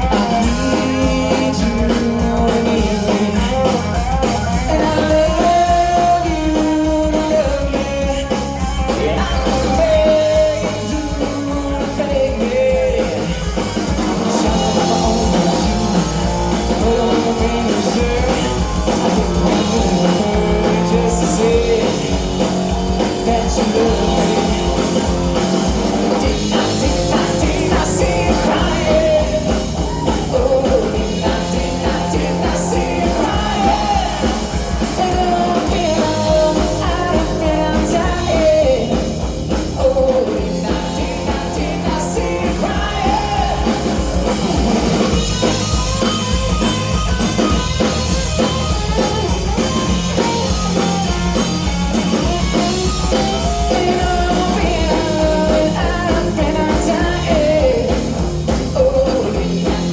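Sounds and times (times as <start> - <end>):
person singing: 0.0 - 46.6, 47.5 - 59.9
live rock band playing: 0.0 - 59.9.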